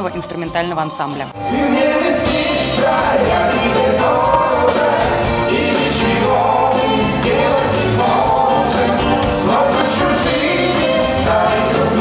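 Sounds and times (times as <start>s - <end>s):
bass guitar: 0.0s - 12.0s
drums: 0.0s - 12.0s.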